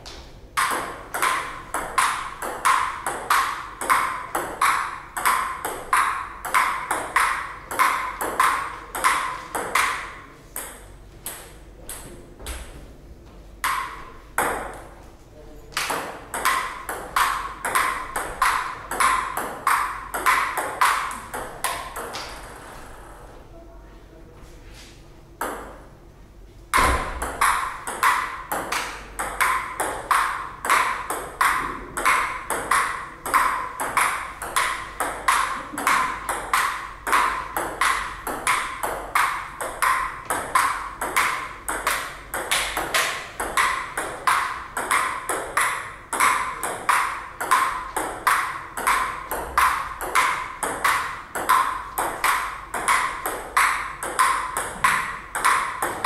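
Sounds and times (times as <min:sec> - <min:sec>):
table tennis rally: 0:00.0 - 0:12.8, 0:13.5 - 0:23.3, 0:25.3 - 0:26.0, 0:26.7 - 0:56.0.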